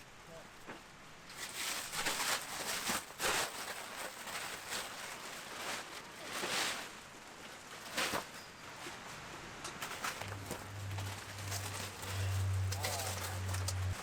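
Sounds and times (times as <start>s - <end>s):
outdoor background noise: 0.0s - 14.0s
rustling: 0.6s - 14.0s.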